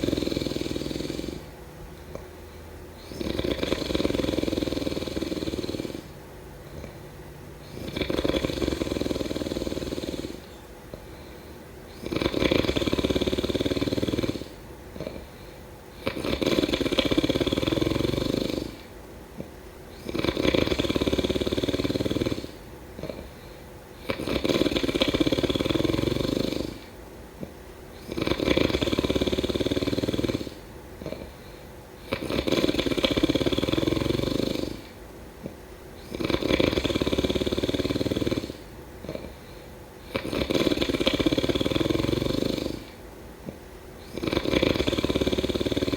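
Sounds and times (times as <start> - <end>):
person snoring: 0.0 - 2.2, 3.0 - 7.0, 7.6 - 43.0, 44.0 - 45.9
quiet breathing: 0.0 - 45.9.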